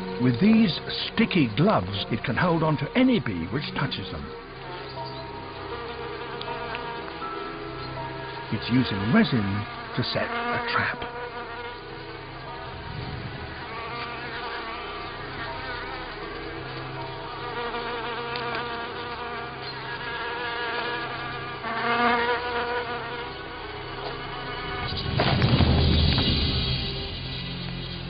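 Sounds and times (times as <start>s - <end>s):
bees buzzing in flight: 0.0s - 28.0s.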